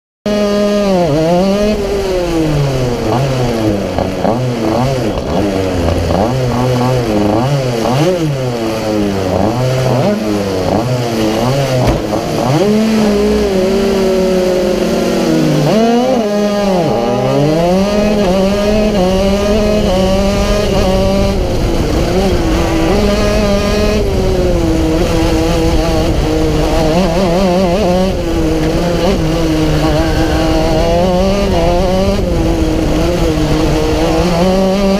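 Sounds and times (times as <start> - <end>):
kart engine revving: 0.3 - 34.9.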